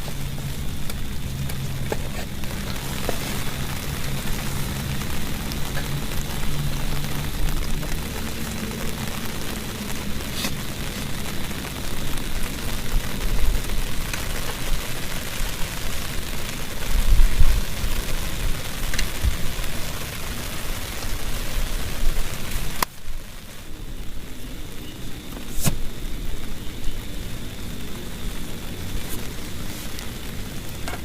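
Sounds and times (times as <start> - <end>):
low rumble: 0.0 - 25.2
heavy rain hissing: 0.0 - 31.0.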